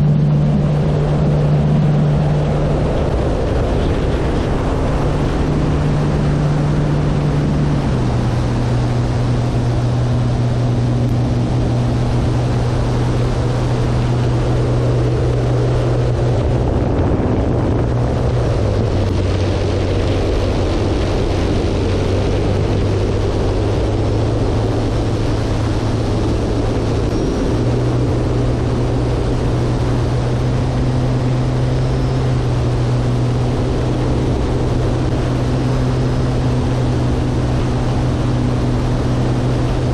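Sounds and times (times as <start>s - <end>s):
electric propeller droning: 0.0s - 39.9s
wind rushing over microphone: 0.0s - 39.9s.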